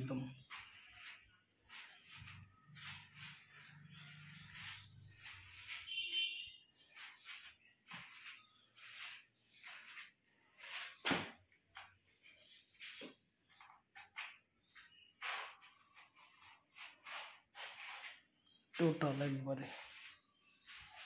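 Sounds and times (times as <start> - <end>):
footsteps scuffing on sandy concrete: 0.4 - 13.2, 14.0 - 21.0.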